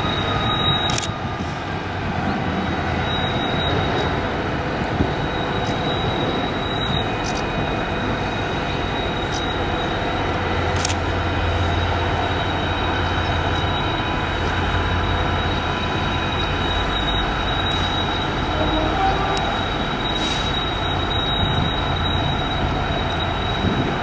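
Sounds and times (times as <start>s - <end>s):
diesel locomotive engine drone: 0.0s - 24.0s
train rumbling on rails: 0.0s - 24.0s.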